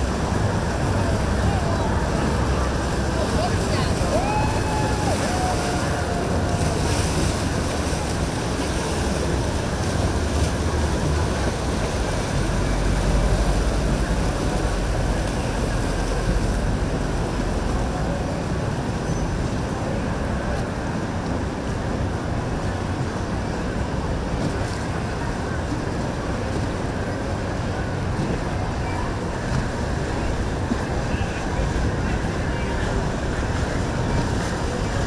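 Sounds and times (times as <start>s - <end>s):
boat engine rumble: 0.0s - 35.0s
water churning: 0.0s - 35.0s.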